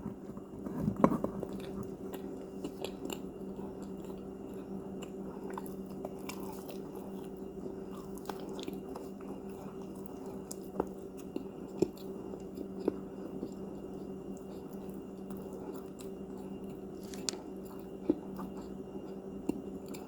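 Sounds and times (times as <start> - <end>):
chewing crunchy cookies: 0.0 - 20.0
steady low hum: 0.0 - 20.0.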